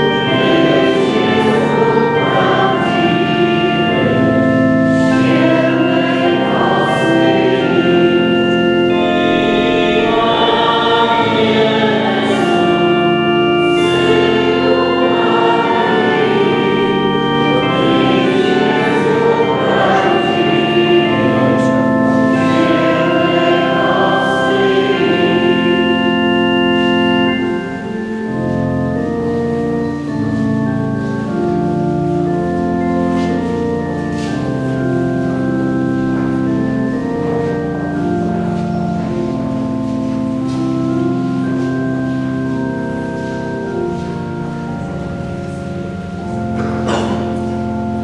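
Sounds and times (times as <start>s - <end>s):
many voices singing a hymn: 0.0s - 42.5s, 44.7s - 48.0s
church organ: 0.0s - 48.0s.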